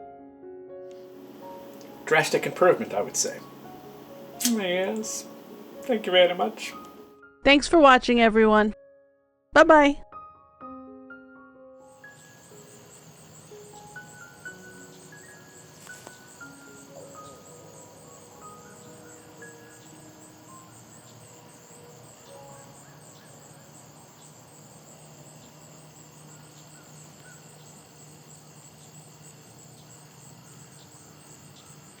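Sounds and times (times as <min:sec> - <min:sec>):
crickets chirping: 0:00.9 - 0:07.1, 0:11.9 - 0:32.0.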